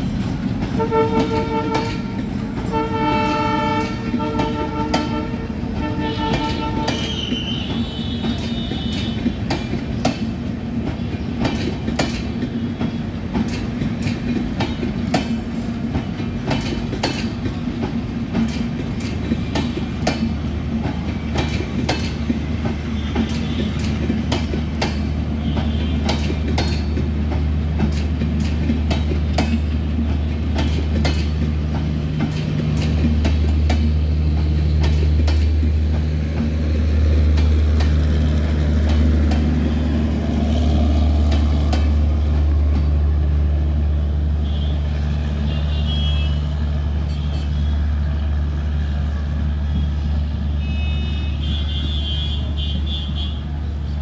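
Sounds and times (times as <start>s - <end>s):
train wheels clicking over rail joints: 0.0s - 50.7s
train rumble: 0.0s - 54.0s.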